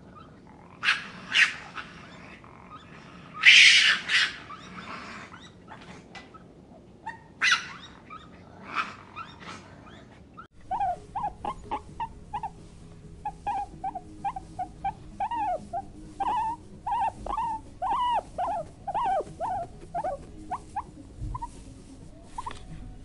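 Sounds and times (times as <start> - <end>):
guinea pig squeaking: 0.1 - 23.0.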